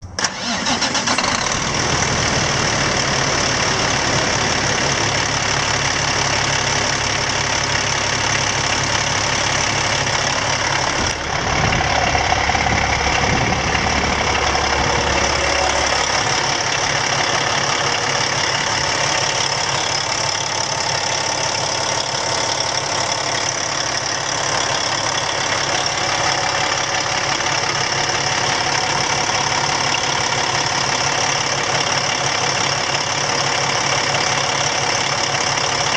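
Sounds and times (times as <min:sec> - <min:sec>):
heavy truck engine idling: 0:00.0 - 0:35.9.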